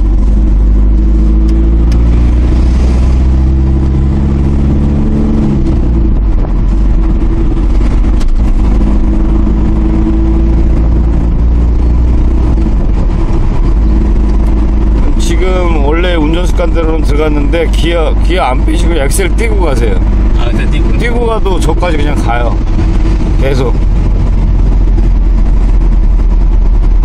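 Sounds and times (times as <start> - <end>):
truck engine pulling: 0.0 - 27.0.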